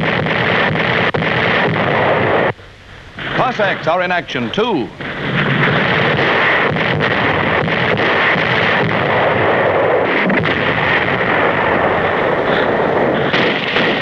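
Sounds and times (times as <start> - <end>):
heavy artillery fire: 0.0 - 2.6, 3.2 - 14.0
sharp bangs: 0.0 - 14.0.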